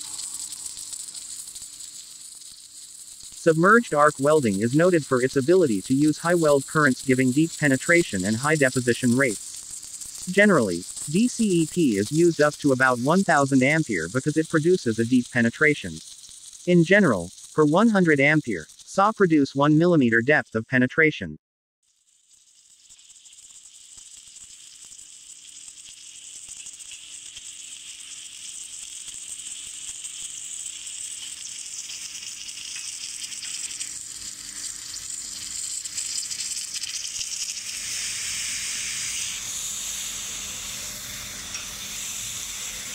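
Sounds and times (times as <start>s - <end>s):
welding arc sizzling hiss: 0.0s - 20.4s, 21.9s - 42.9s.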